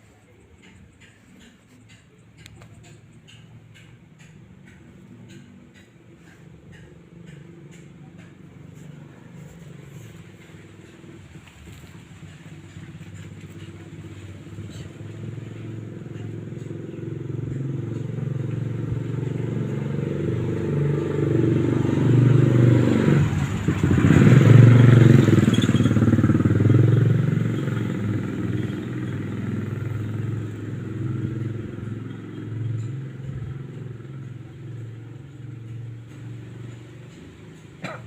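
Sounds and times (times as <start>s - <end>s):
motorcycle engine passing by: 2.6s - 38.0s.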